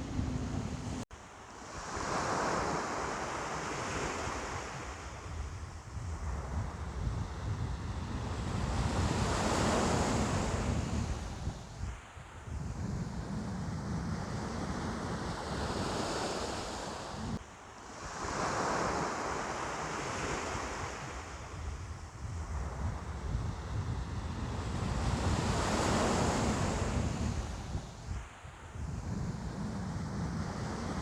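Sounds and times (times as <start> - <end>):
wind rumble on microphone: 0.0 - 1.0, 1.7 - 17.4, 18.0 - 31.0.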